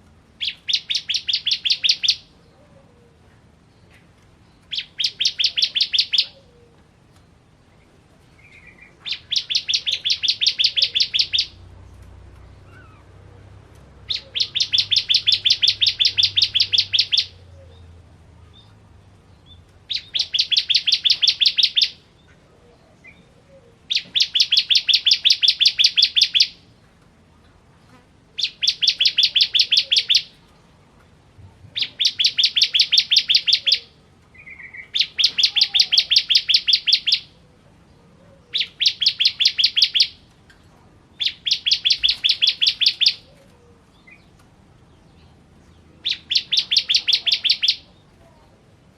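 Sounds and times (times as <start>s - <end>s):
bird chattering song: 0.4s - 2.6s, 3.6s - 6.5s, 7.7s - 26.8s, 27.9s - 30.6s, 31.8s - 48.4s.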